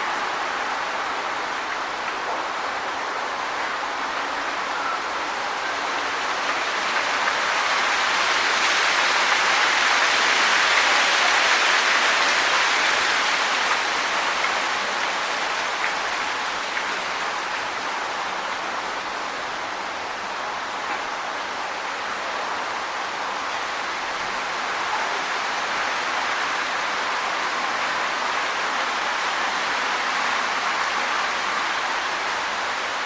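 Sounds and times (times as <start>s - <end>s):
wind rustling tree leaves: 0.0s - 33.0s.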